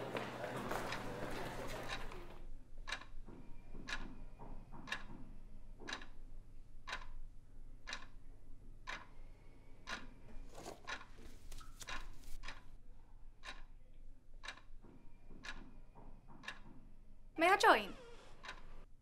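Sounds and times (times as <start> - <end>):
wall clock ticking: 2.8 - 18.9.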